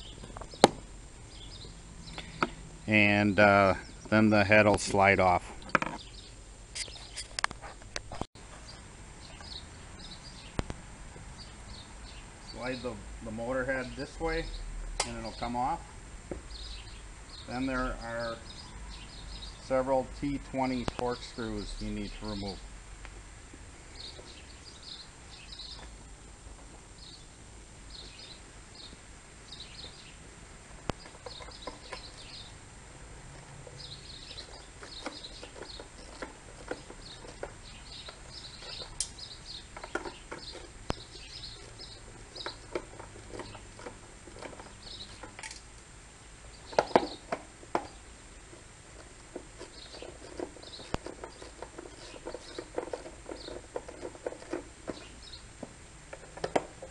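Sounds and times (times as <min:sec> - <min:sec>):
small birds chirping: 0:00.0 - 0:23.2, 0:23.8 - 0:56.9.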